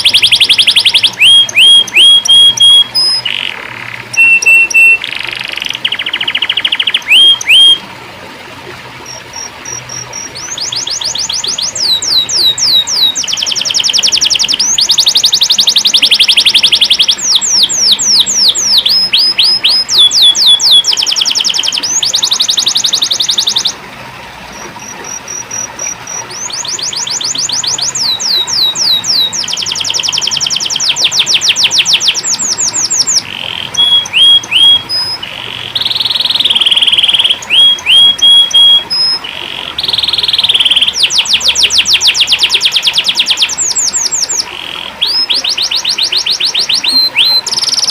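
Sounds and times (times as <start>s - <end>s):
canary singing fast trills: 0.0s - 7.8s, 9.0s - 23.8s, 24.5s - 47.9s.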